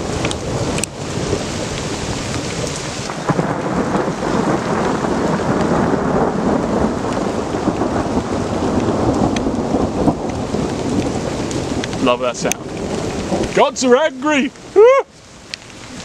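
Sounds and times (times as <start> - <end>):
rain drumming on a tarp: 0.0 - 16.0
thunder rumbling: 0.0 - 16.0.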